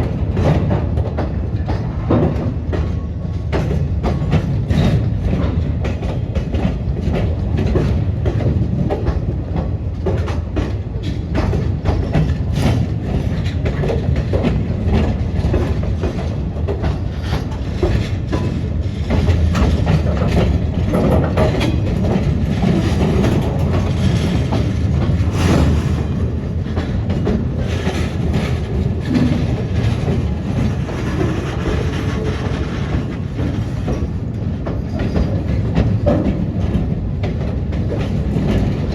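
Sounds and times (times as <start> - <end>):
freight train rumble: 0.0 - 38.9
wheels clacking over rail joints: 0.4 - 38.9.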